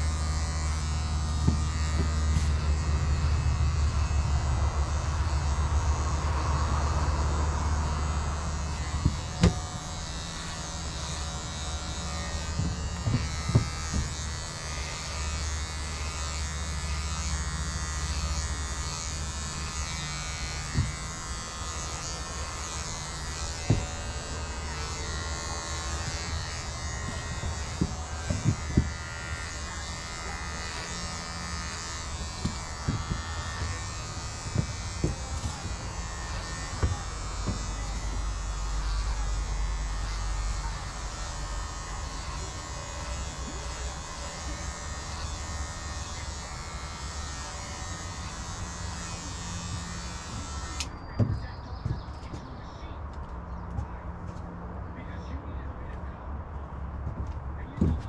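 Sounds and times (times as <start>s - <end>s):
electric hair clippers buzzing: 0.0s - 51.0s.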